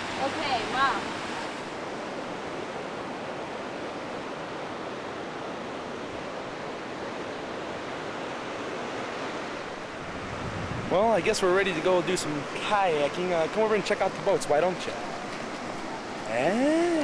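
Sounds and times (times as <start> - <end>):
whitewater river rushing: 0.0 - 17.0.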